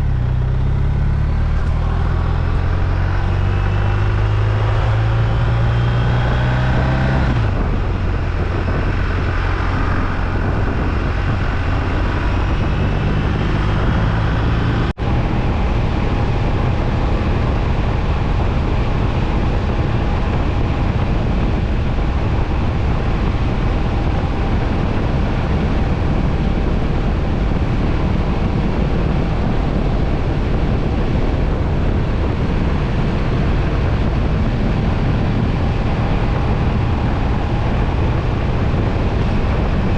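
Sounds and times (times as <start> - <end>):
motorcycle engine running: 0.0 - 39.9
wind rushing past microphone: 0.0 - 39.9.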